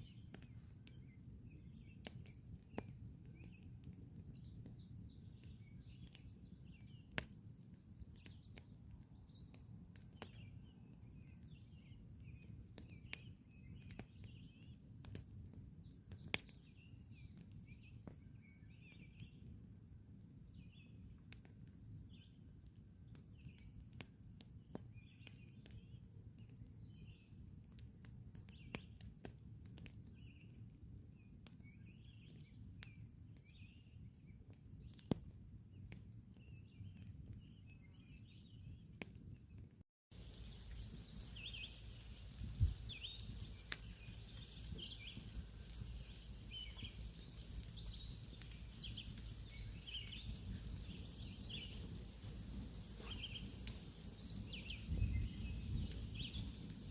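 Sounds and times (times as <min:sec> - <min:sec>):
small birds chirping: 0:00.0 - 0:15.2, 0:15.8 - 0:19.6, 0:23.1 - 0:23.8, 0:24.6 - 0:27.4, 0:31.2 - 0:56.9
campfire crackling and popping: 0:00.0 - 0:19.8, 0:20.5 - 0:56.9.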